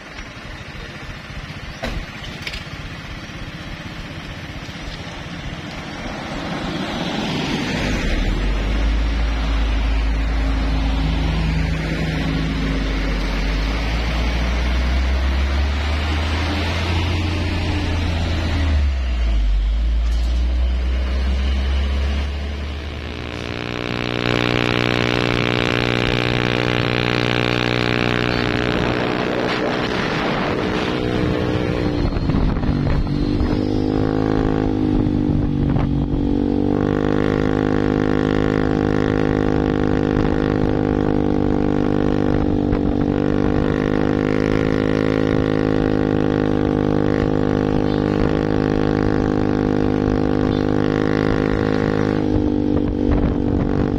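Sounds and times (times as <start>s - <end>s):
truck diesel engine droning: 0.0s - 53.9s.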